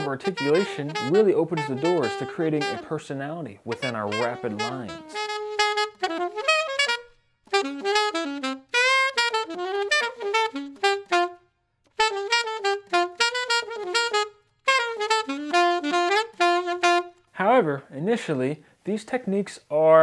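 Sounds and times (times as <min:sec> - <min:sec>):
alto saxophone playing fast lines: 0:00.0 - 0:17.4.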